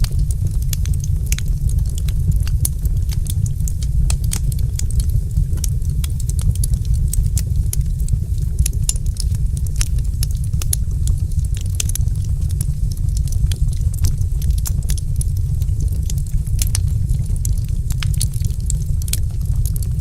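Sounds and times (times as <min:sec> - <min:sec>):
deep rumble of burning: 0:00.0 - 0:20.0
wood fire popping and snapping: 0:00.0 - 0:20.0.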